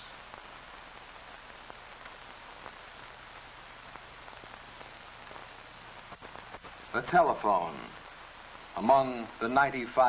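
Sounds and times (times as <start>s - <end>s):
film soundtrack hiss: 0.0s - 10.0s.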